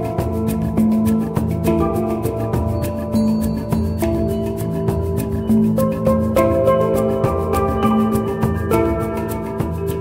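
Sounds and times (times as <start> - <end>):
melodic music with light beat: 0.0 - 10.0.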